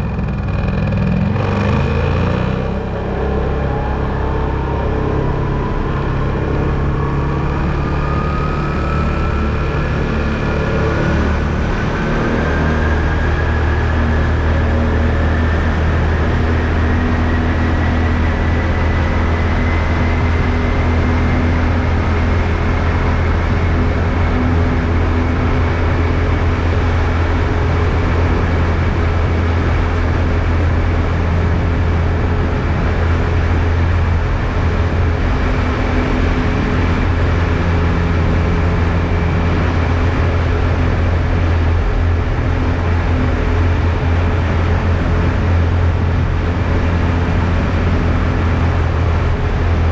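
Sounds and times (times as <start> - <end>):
atv engine running: 0.0 - 49.9
faint rising whine: 0.0 - 49.9.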